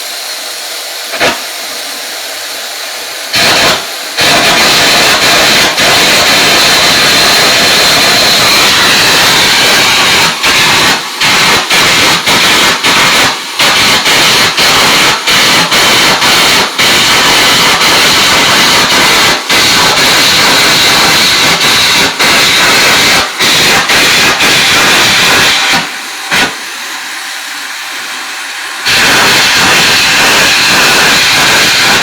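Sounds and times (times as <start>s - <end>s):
welding arc crackling and hissing: 0.0s - 32.0s.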